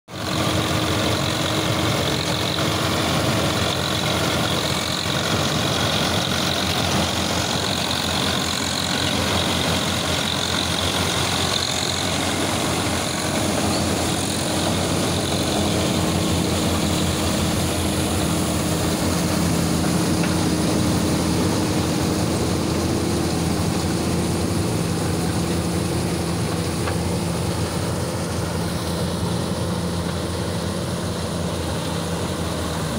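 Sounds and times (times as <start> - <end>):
diesel machinery drone: 0.1 - 32.9.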